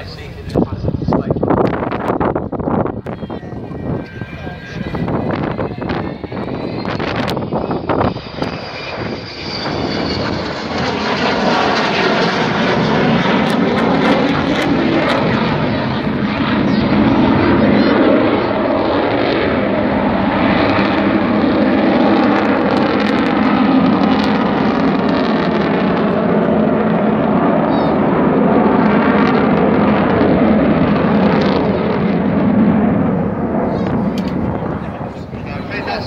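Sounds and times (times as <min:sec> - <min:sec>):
jet bomber flying past: 0:00.0 - 0:36.0.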